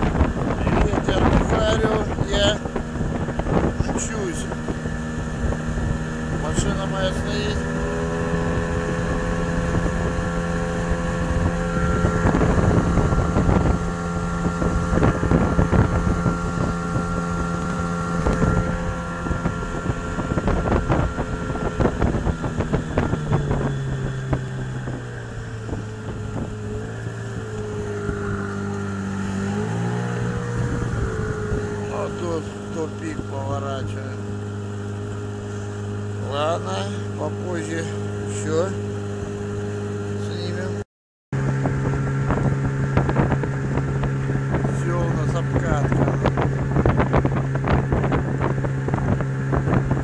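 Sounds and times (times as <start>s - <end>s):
water splashing against boat: 0.0s - 40.8s, 41.4s - 50.0s
outboard motor running: 0.0s - 50.0s.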